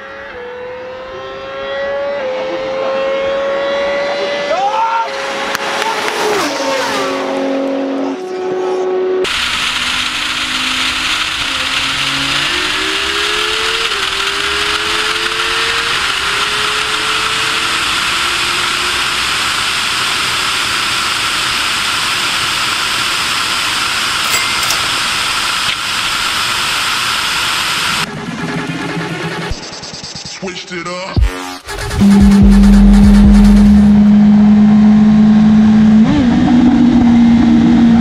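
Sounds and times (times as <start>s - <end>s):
car engine accelerating: 0.0s - 24.2s, 31.2s - 38.0s.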